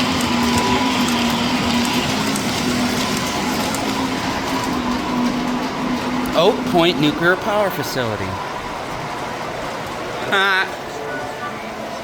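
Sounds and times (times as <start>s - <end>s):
model train motor hum: 0.0s - 11.2s.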